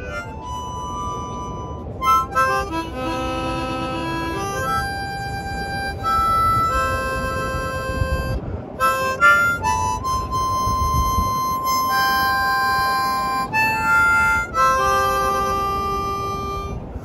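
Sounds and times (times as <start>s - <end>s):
harmonica playing slow chords: 0.0s - 17.0s.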